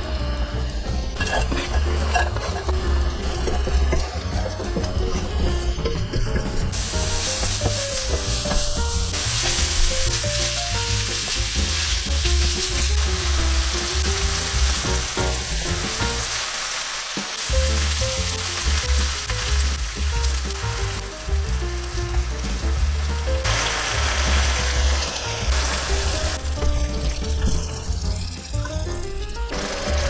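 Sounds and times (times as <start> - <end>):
background music: 0.0 - 30.0
food sizzling in a frying pan: 0.8 - 28.6, 29.5 - 30.0.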